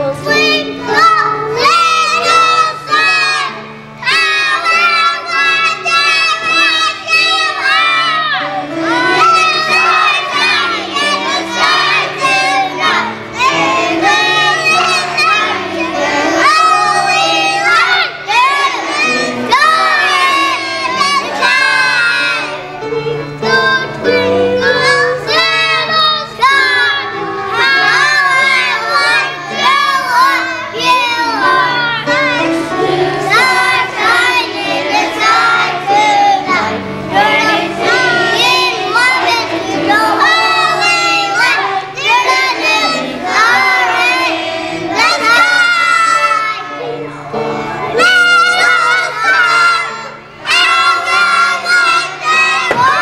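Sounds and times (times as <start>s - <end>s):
children's choir singing: 0.0s - 53.0s.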